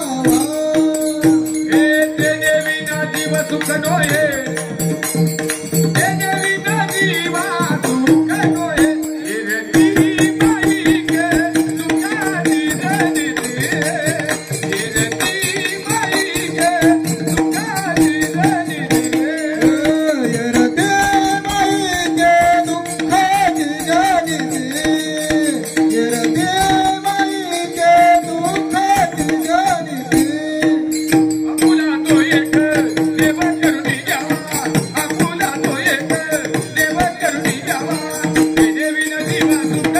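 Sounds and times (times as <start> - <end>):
hand drum: 0.0 - 39.9
voices singing: 5.9 - 39.9.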